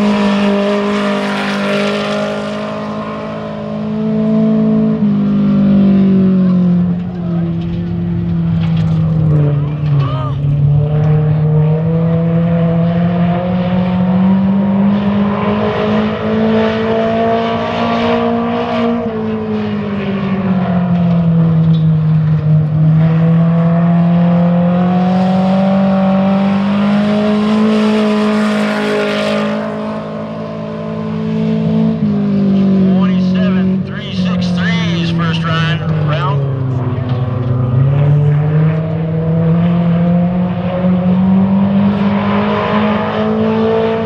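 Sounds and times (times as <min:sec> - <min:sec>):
race car engine running hard: 0:00.0 - 0:44.0.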